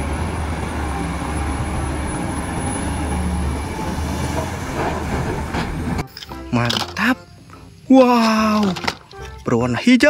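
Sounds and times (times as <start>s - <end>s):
excavator diesel engine rumbling: 0.0s - 9.4s.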